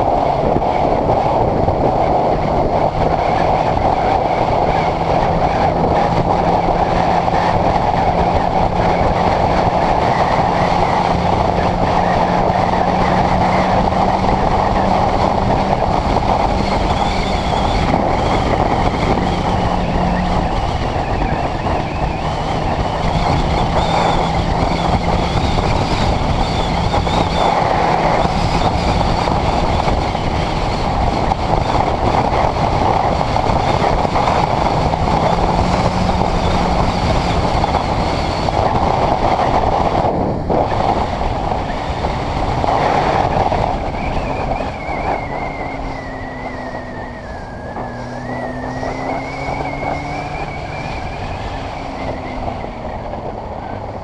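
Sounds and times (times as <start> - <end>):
motorcycle engine running: 0.0 - 54.0
wind rush over microphone: 0.0 - 54.0.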